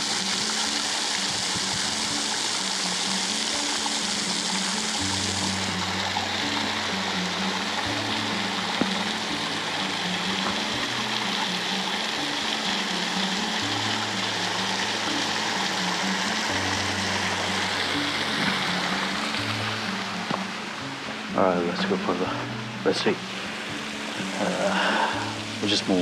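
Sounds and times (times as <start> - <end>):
slow low background music: 0.0 - 26.0
waterfall and stream rushing: 0.0 - 26.0.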